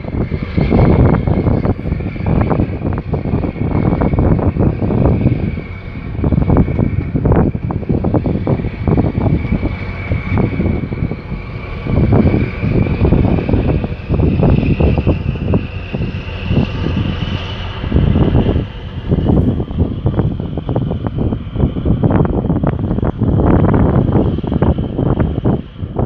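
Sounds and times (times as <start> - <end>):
high whine rising in pitch: 0.0 - 26.0
wind buffeting microphone: 0.0 - 26.0.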